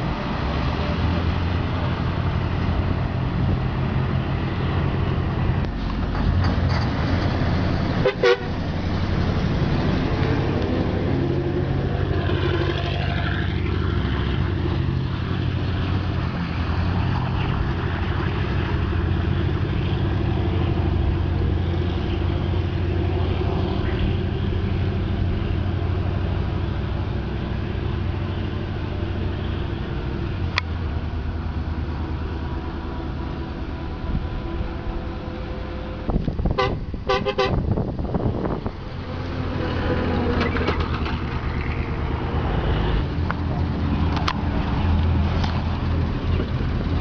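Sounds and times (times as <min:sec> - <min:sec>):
bus engine droning: 0:00.0 - 0:47.0.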